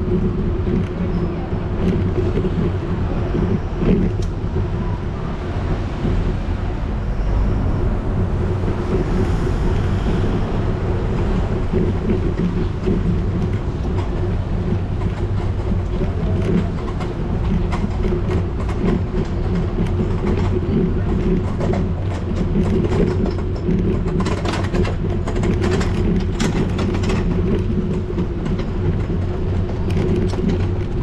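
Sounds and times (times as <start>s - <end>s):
bicycle tyres rolling over paving: 0.0s - 31.0s.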